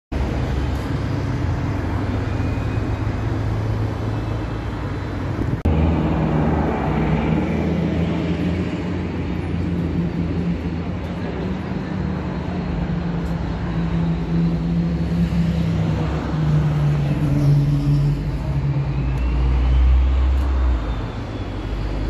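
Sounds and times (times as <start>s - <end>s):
bus engine drone: 0.1s - 22.0s
cars passing: 0.1s - 22.0s.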